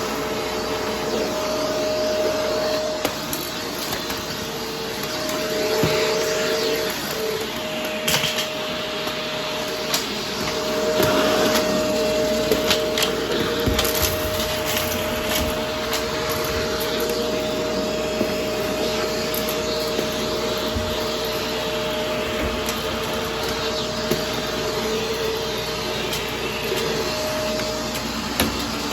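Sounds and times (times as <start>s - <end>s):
vacuum cleaner motor whine: 0.0s - 28.9s.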